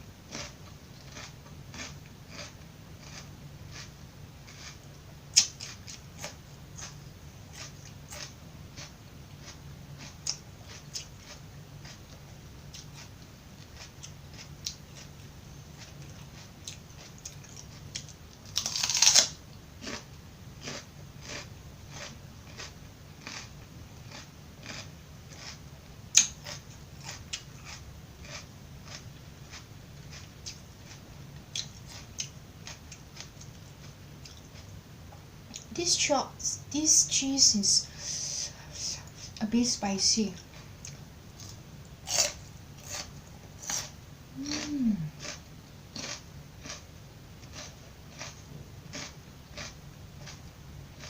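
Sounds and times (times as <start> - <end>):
chewing crisp vegetables: 0.3 - 36.1, 39.0 - 51.0.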